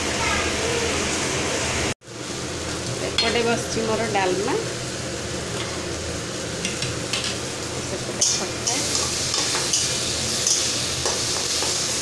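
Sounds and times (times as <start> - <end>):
food sizzling and bubbling: 0.0 - 12.0.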